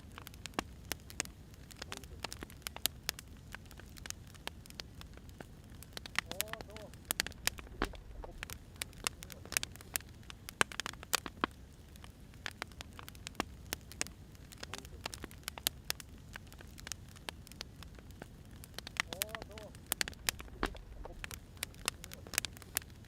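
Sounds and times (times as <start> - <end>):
fire burning hiss: 0.0 - 23.0
fire crackling and popping: 0.0 - 23.0.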